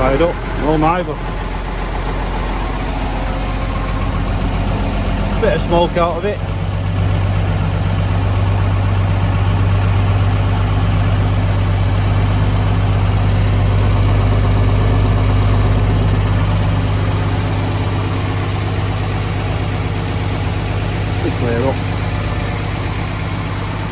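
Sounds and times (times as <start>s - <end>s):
diesel truck engine idling: 0.0s - 23.9s.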